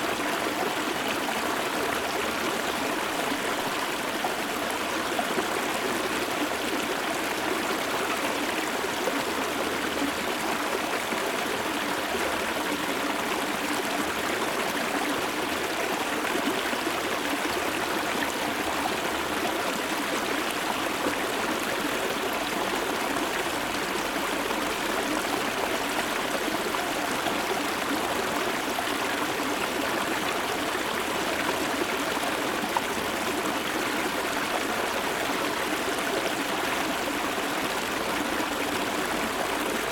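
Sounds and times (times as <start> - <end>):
shallow river stream flowing: 0.0 - 39.9.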